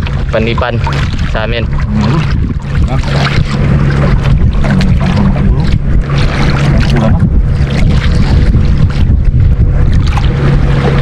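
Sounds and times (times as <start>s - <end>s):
low steady hum: 0.0s - 11.0s
wind buffeting microphone: 0.0s - 11.0s.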